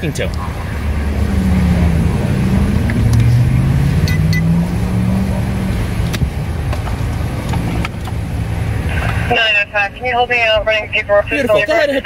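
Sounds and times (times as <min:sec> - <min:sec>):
traffic rumble: 0:00.0 - 0:12.0
vehicle engine running: 0:00.0 - 0:12.0.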